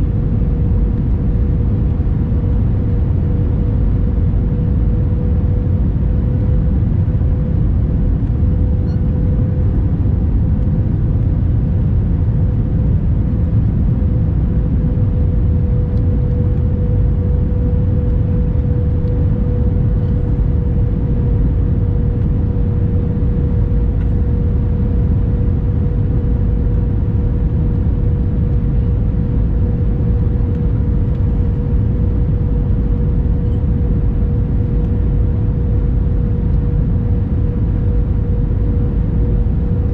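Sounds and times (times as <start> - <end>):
airliner cabin engine rumble: 0.0 - 39.9
constant mid-pitched hum: 0.0 - 39.9.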